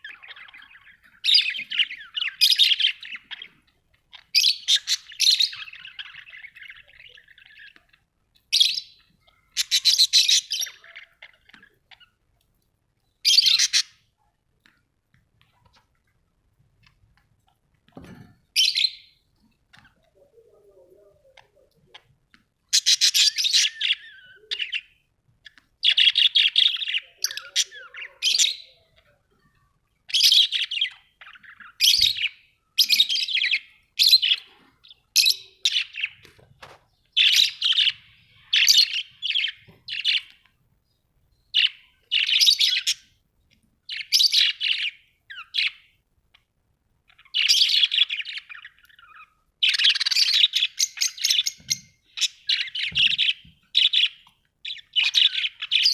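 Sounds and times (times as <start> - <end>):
budgerigars chirping and warbling: 0.0 - 12.2, 13.2 - 14.2, 18.1 - 40.5, 41.5 - 43.2, 43.8 - 46.4, 47.1 - 55.9.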